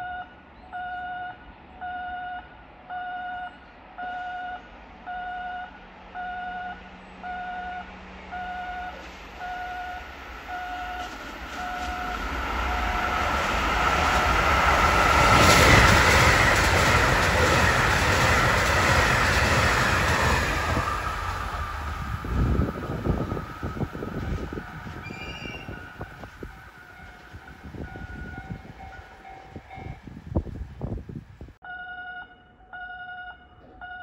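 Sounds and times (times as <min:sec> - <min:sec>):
train rushing past: 0:03.8 - 0:31.6.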